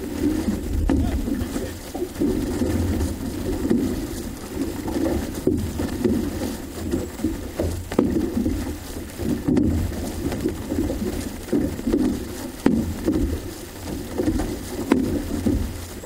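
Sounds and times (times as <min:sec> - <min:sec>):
paddles splashing through water: 0:00.0 - 0:16.0.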